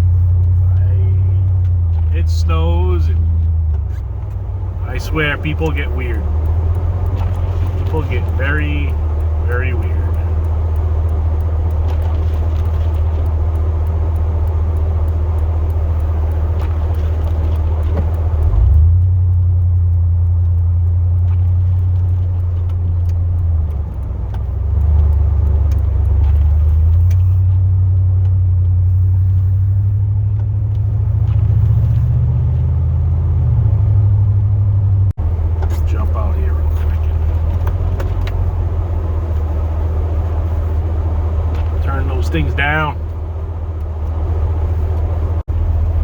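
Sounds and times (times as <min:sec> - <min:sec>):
truck engine droning: 0:00.0 - 0:46.0.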